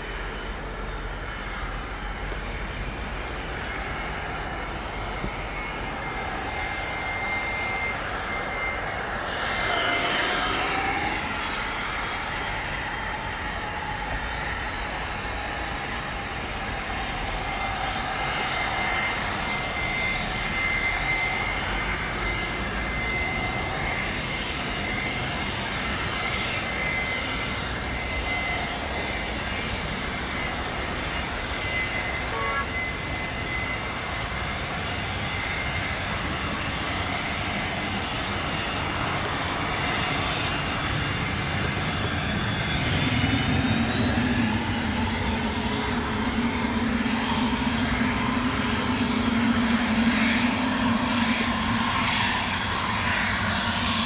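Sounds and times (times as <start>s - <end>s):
aircraft engines landing: 0.0s - 54.0s
rising engine whine: 0.0s - 54.0s.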